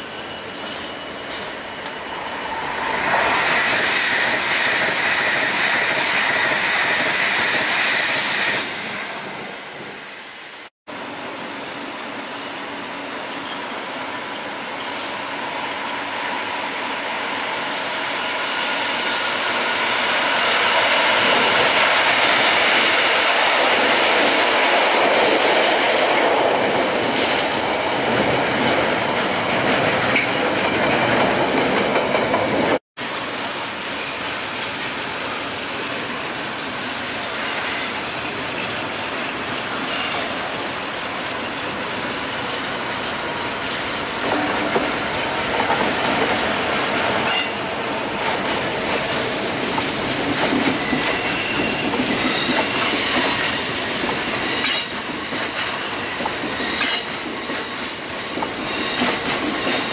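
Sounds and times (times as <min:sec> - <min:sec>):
diesel locomotive passing: 0:00.0 - 0:59.9
freight train rumbling past: 0:00.0 - 0:59.9.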